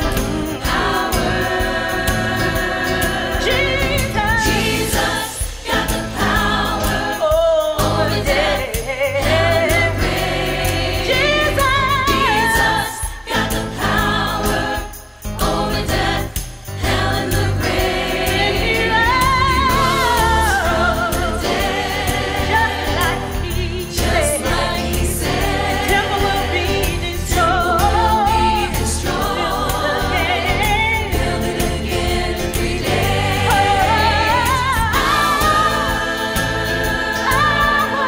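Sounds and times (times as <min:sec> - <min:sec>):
choir chanting: 0:00.0 - 0:38.0
drum kit: 0:00.0 - 0:38.0
gospel choir singing: 0:00.0 - 0:38.0
keyboard: 0:00.0 - 0:38.0.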